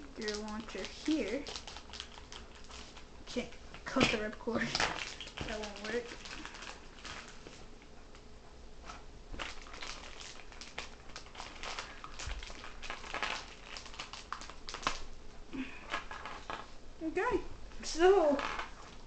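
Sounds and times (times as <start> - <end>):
plastic bags crinkling: 0.0 - 7.6, 9.3 - 16.8, 18.2 - 19.0.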